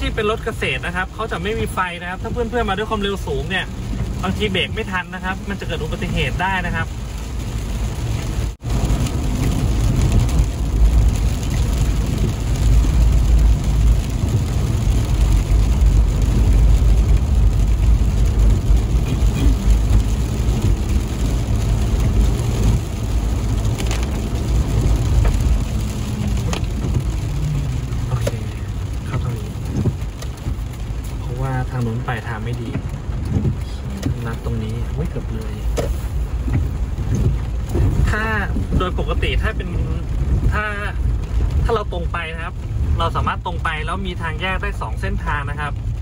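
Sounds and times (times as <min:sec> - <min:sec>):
car engine and tyre rumble: 0:00.0 - 0:46.0
water and rain hiss: 0:00.0 - 0:46.0.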